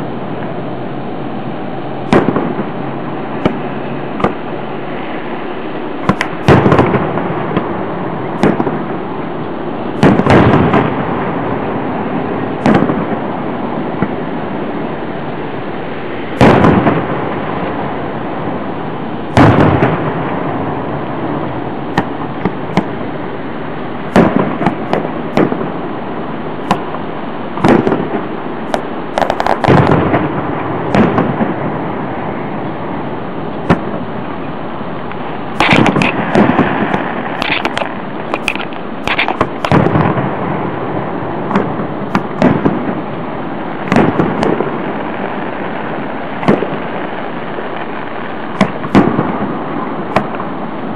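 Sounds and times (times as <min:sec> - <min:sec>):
fireworks booming: 0:00.0 - 0:50.9
fireworks crackling: 0:00.0 - 0:50.9
steady hiss: 0:00.0 - 0:50.9.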